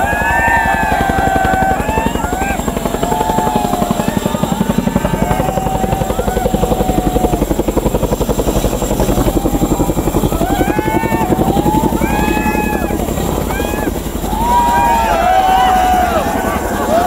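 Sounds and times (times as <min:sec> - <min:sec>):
helicopter rotors chopping: 0:00.0 - 0:17.0.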